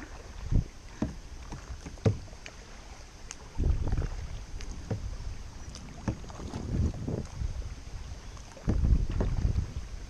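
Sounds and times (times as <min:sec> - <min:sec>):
paddle splashing in water: 0:00.0 - 0:10.0.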